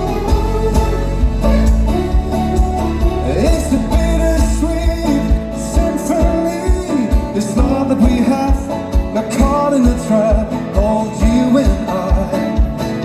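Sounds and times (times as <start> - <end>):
plucked strings and guitar: 0.0 - 13.0.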